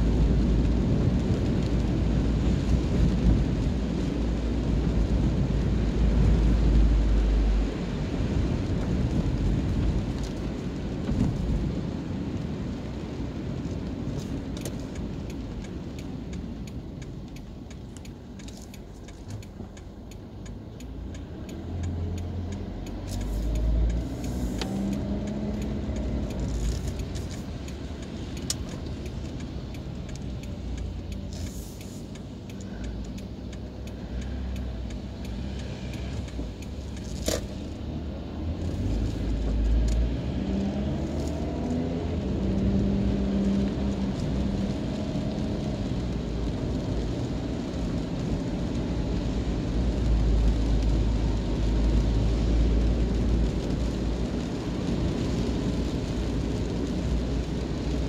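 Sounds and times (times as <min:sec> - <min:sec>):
raindrops tapping on windscreen: 0:00.0 - 0:58.0
road and engine rumble: 0:00.0 - 0:58.0
tyres hissing on wet road: 0:00.0 - 0:58.0.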